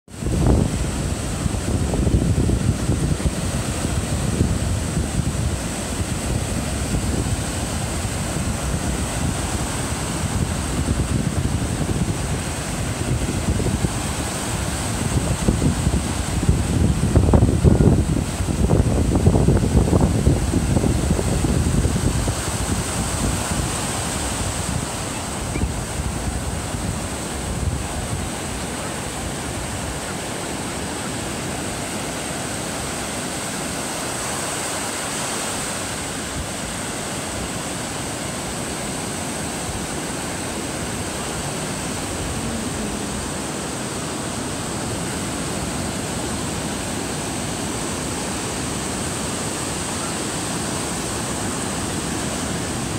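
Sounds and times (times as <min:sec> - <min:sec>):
ocean surf washing on beach: 0:00.1 - 0:52.9
wind rumbling on microphone: 0:00.1 - 0:52.9.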